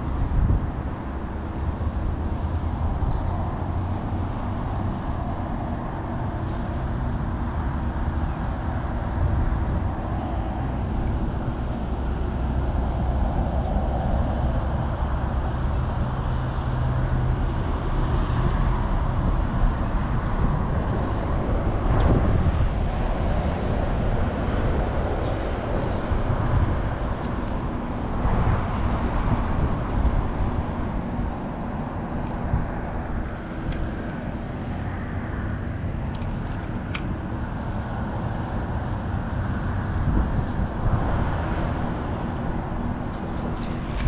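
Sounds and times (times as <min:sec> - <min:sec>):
vehicle traffic rumble: 0:00.0 - 0:44.0.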